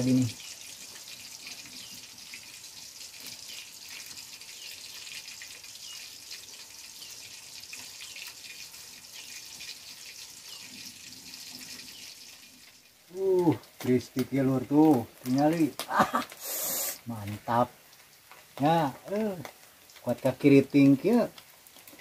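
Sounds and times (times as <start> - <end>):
fish deep-frying in oil: 0.0 - 22.0.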